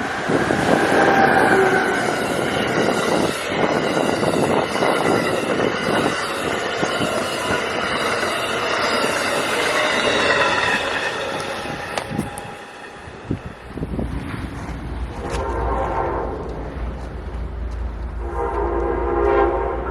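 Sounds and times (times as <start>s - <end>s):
train wheels on rails: 0.0s - 19.9s.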